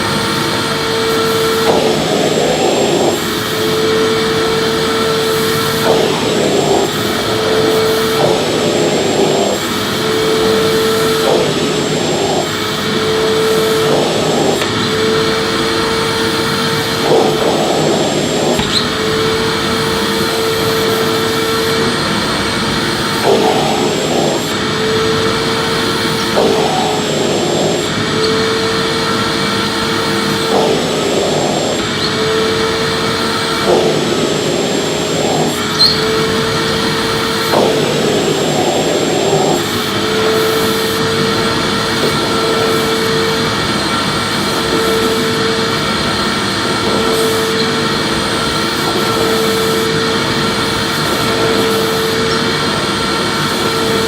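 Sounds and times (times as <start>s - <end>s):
vacuum cleaner sweeping floor: 0.0s - 54.0s.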